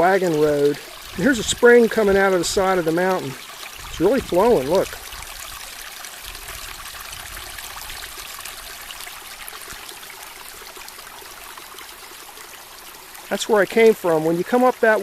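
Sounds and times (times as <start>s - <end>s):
spring water running and splashing: 0.0s - 15.0s.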